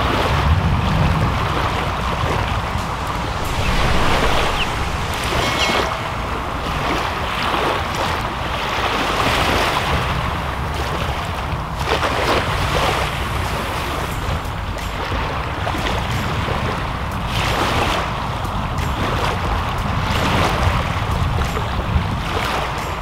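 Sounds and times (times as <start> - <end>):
small waves lapping: 0.0 - 23.0
wind rumbling on microphone: 0.0 - 23.0.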